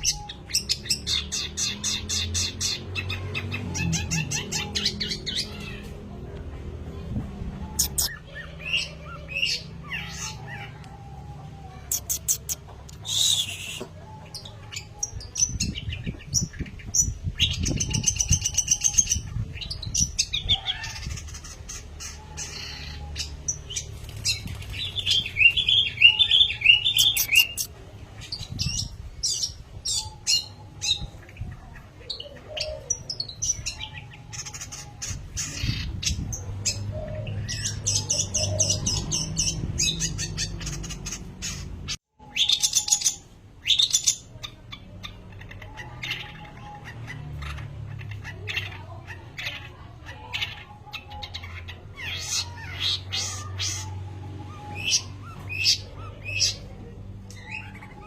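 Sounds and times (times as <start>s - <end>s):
shrike singing chirps and trills: 0.0s - 5.9s, 7.6s - 58.0s.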